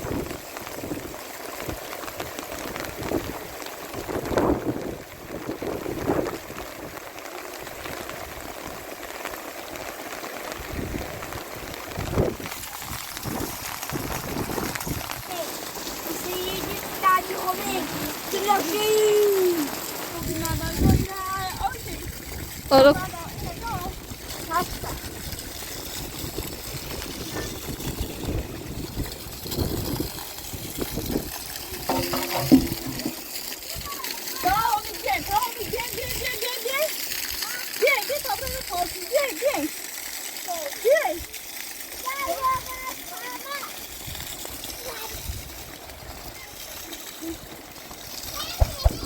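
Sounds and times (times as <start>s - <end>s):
heavy rain falling: 0.0s - 49.0s.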